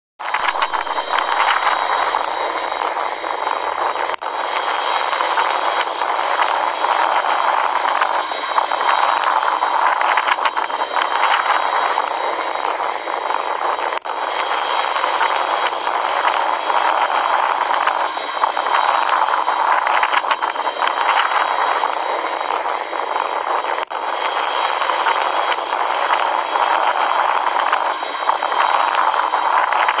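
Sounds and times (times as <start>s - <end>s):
jet engine roar: 0.2s - 30.0s.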